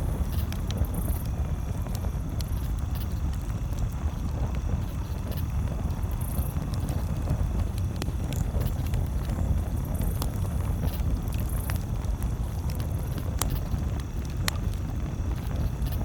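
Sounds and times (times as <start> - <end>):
campfire crackling: 0.0 - 16.0
steady low rumble: 0.0 - 16.0.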